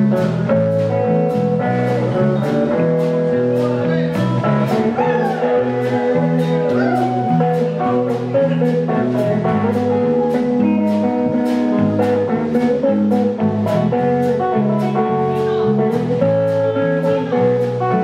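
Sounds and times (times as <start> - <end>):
country band playing: 0.0 - 18.0
drum kit cymbal beat: 0.0 - 18.0
guitars: 0.0 - 18.0
stepping bass line: 0.0 - 18.0.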